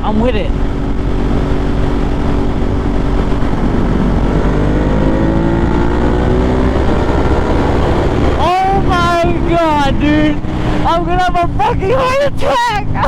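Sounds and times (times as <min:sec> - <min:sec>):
motorcycle engine accelerating: 0:00.0 - 0:13.0
wind rush on microphone: 0:00.0 - 0:13.0.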